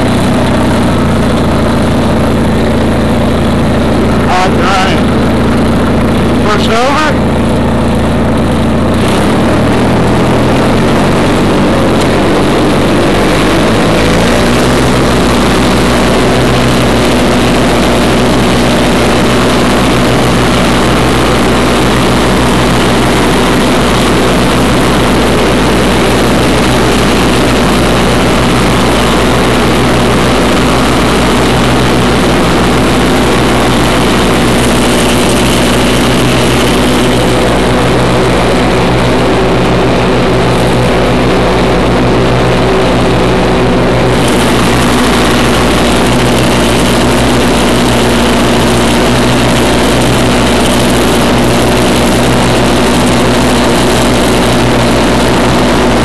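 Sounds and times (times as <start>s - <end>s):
lawn tractor engine mowing grass: 0.0s - 56.0s.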